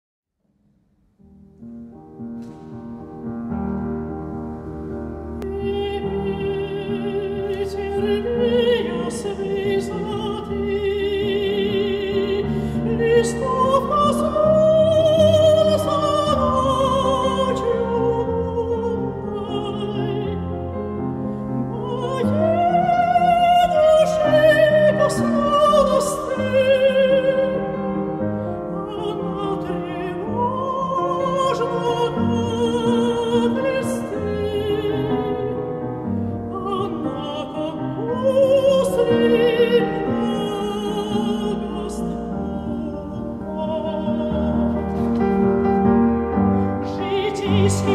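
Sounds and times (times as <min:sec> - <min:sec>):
piano accompaniment: 0:01.0 - 0:47.9
soprano singing with vibrato: 0:05.4 - 0:47.9.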